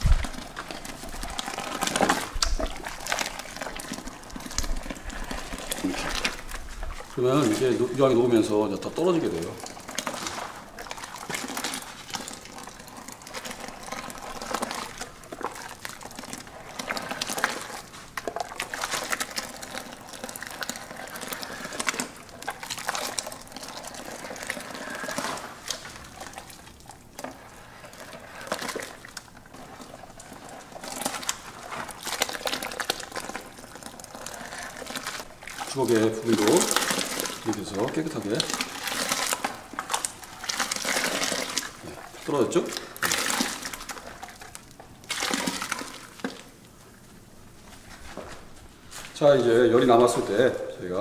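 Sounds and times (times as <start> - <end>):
liquid splashing and trickling: 0.0 - 46.7.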